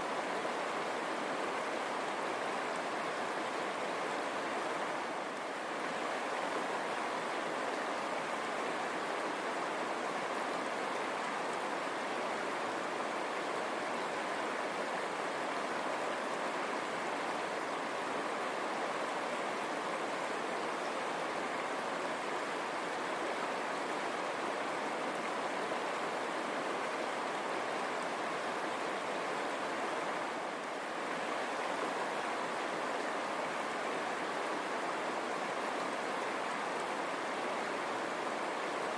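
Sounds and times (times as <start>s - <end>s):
river running over stones: 0.0s - 38.9s.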